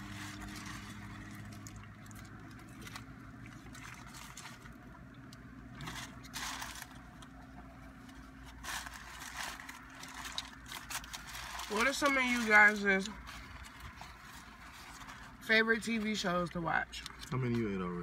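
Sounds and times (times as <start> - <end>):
paper wrapper rustling: 0.0 - 16.2
car idling hum: 0.0 - 18.0.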